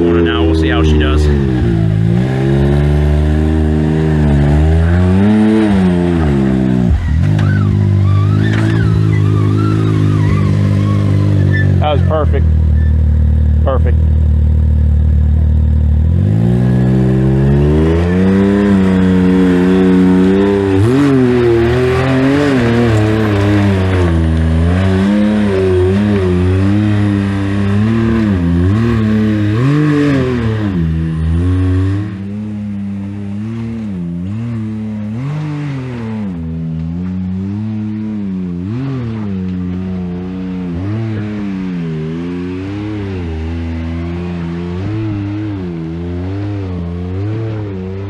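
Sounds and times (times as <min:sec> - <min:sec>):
utility vehicle engine revving: 0:00.0 - 0:48.0.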